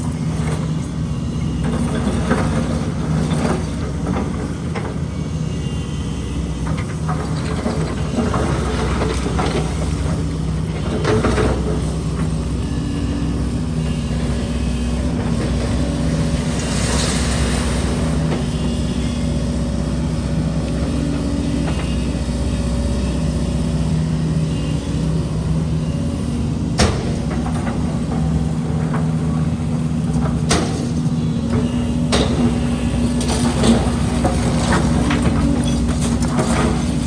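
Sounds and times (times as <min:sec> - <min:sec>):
diesel construction machinery running: 0:00.0 - 0:37.0.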